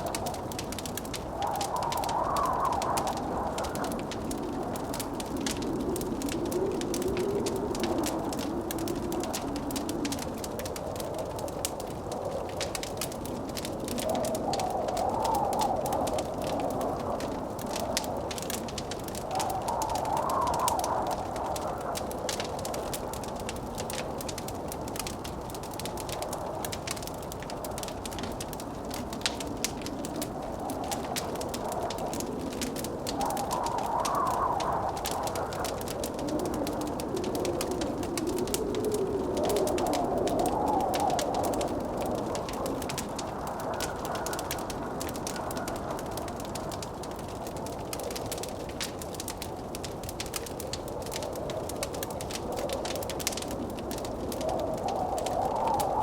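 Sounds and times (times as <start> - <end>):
blizzard wind rushing: 0.0 - 56.0
log fire crackling and popping: 0.0 - 56.0.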